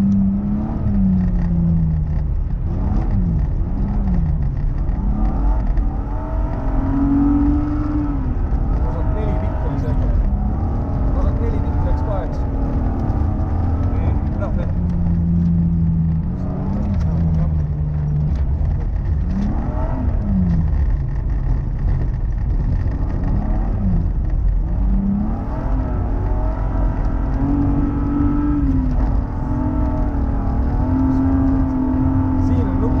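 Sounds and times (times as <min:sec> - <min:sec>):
rally car engine revving: 0:00.0 - 0:33.0
road noise: 0:00.0 - 0:33.0.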